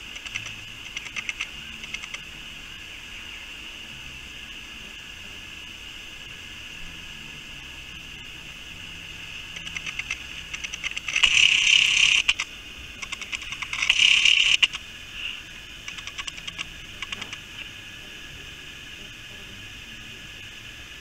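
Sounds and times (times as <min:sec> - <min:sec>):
insect clicking and buzzing: 0:00.0 - 0:21.0
insects droning: 0:00.0 - 0:21.0.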